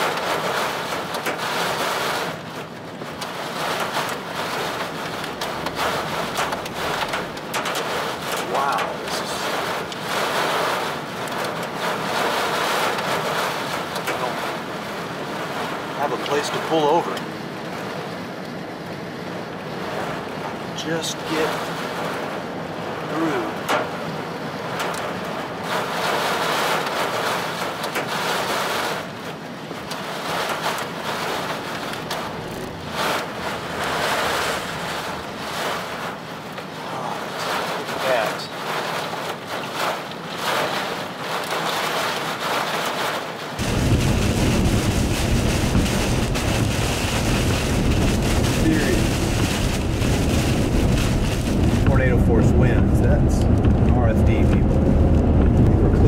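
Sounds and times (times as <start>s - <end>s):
tyres hissing on wet road: 0.0s - 55.8s
heavy rain and wind on vehicle: 0.0s - 56.0s.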